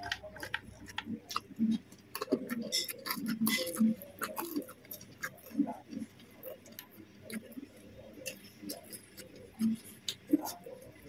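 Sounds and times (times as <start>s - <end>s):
wet chewing and lip smacks: 0.0s - 11.0s.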